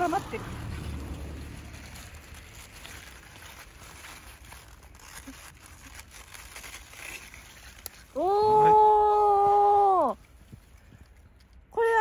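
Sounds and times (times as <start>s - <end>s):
rustling leaves: 0.0s - 12.0s
soft crunches of stems being cut: 0.6s - 12.0s.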